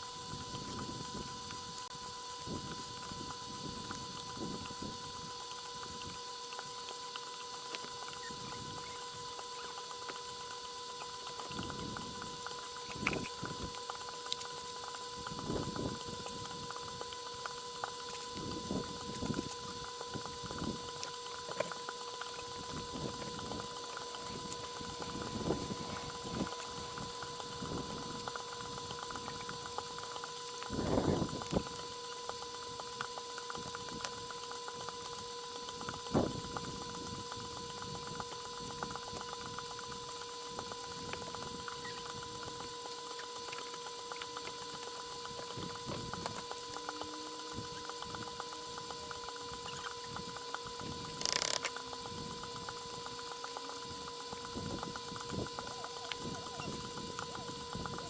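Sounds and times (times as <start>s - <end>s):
high-pitched electrical hum: 0.0s - 58.0s.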